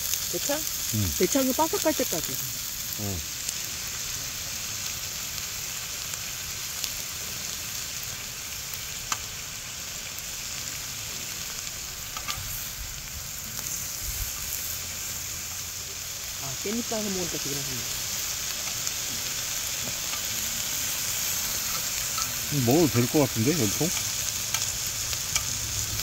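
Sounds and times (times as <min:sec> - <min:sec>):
meat sizzling on a grill pan: 0:00.0 - 0:26.0.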